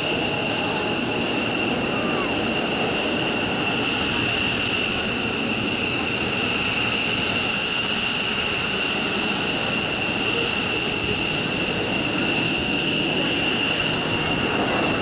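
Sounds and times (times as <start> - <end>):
jet engine turbine whine: 0.0 - 15.0
jet exhaust rush: 0.0 - 15.0.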